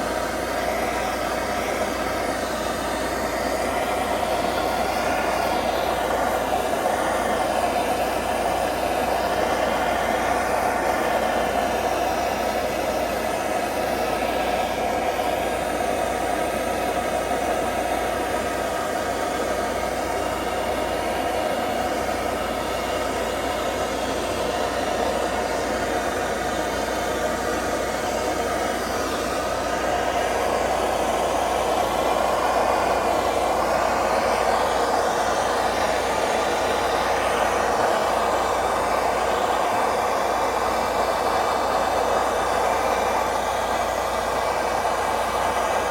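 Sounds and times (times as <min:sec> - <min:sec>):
heat gun blowing: 0:00.0 - 0:45.9.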